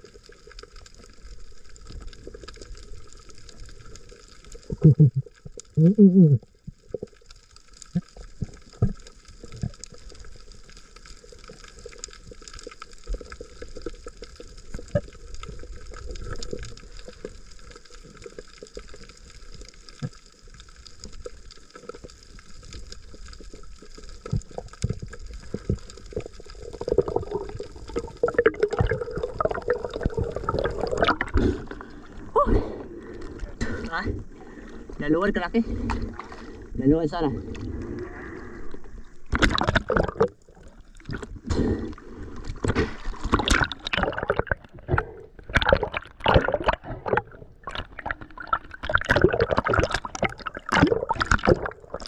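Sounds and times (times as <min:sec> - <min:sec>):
water gurgling and sloshing: 0:00.0 - 0:52.0.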